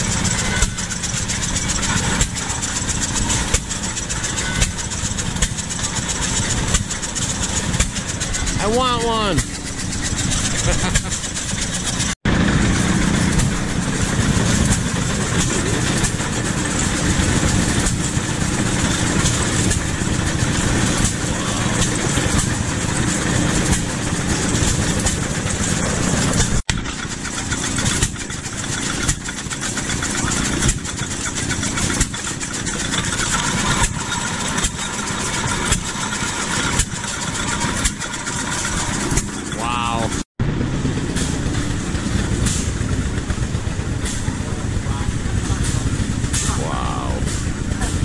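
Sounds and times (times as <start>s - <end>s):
stationary gas engines clattering: 0.0s - 48.0s.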